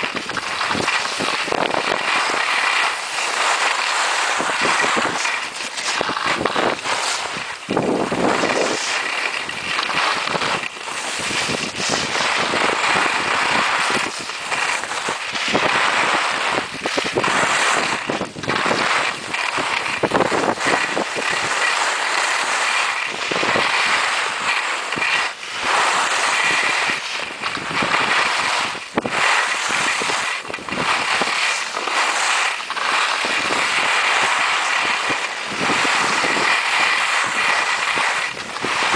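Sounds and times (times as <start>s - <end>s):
skis scraping on icy snow: 0.0s - 38.9s
wind on microphone: 0.0s - 38.9s.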